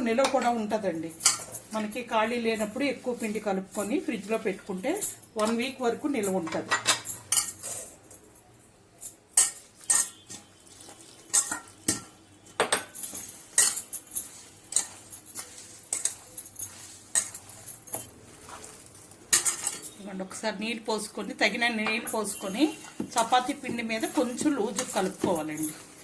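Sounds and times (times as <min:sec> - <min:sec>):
mixing clinks and scrapes in metal bowl: 0:00.0 - 0:08.3, 0:09.1 - 0:20.4, 0:21.0 - 0:26.0.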